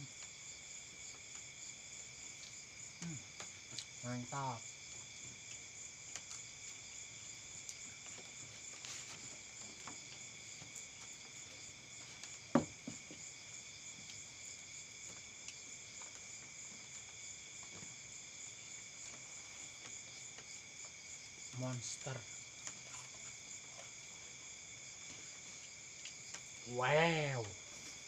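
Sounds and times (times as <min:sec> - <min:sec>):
night insects chorus: 0:00.0 - 0:28.0.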